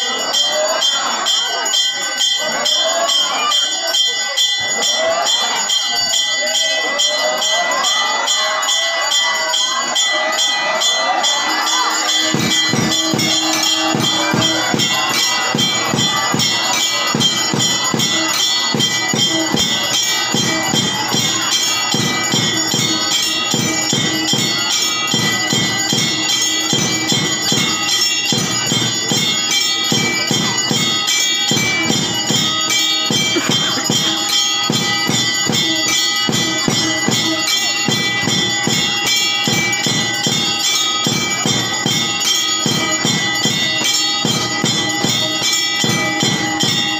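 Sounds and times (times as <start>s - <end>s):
temple bells ringing rapidly: 0.0s - 46.9s.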